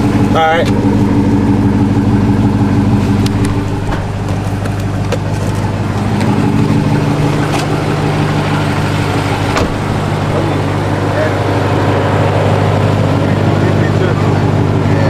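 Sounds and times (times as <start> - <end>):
car engine lumpy idle: 0.0 - 15.0.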